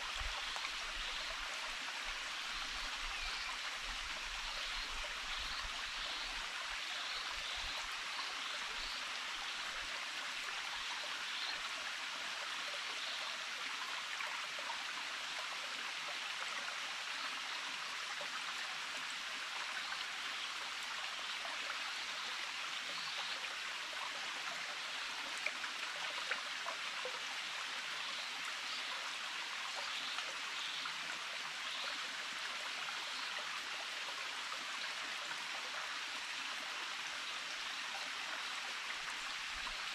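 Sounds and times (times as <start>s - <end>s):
small stream running: 0.0s - 39.9s.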